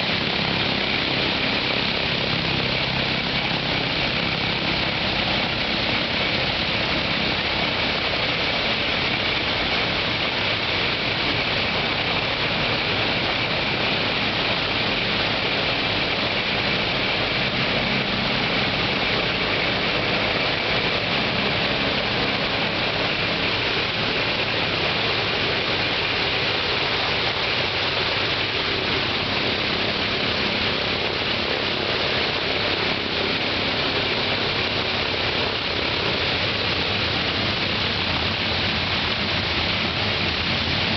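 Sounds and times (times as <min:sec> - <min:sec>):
radial aircraft engine running: 0:00.0 - 0:40.9.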